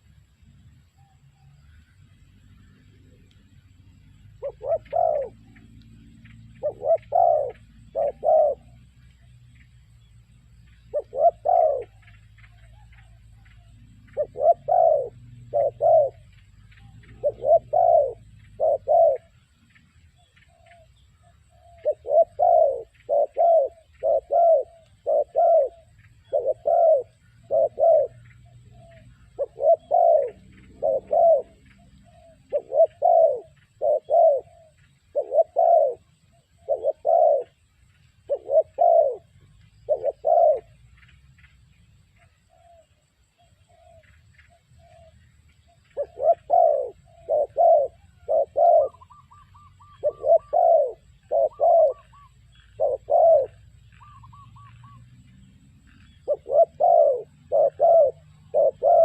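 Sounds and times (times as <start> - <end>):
dove cooing: 4.2 - 9.7, 10.7 - 41.5, 42.2 - 59.0.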